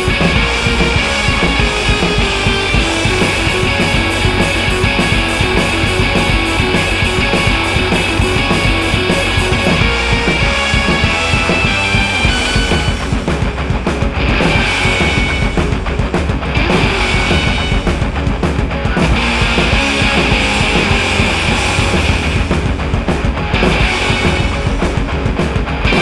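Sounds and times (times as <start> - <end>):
distorted guitar: 0.0 - 26.0
drum kit fast beat: 0.0 - 26.0.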